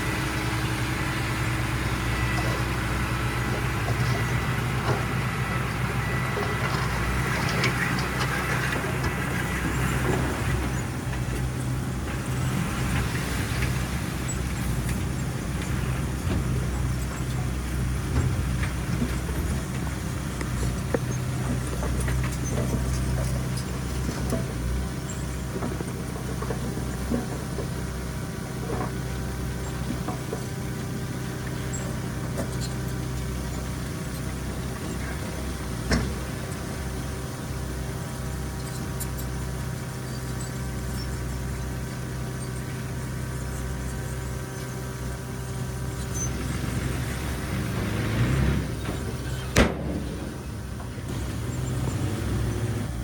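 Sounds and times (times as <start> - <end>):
diesel engine droning: 0.0 - 53.0.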